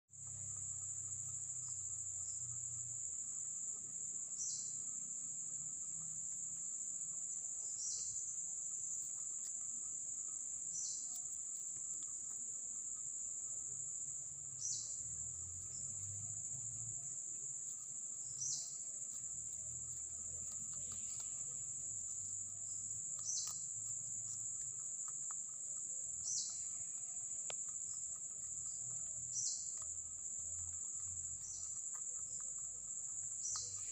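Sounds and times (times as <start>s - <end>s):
insects trilling high-pitched drone: 0.2s - 33.9s.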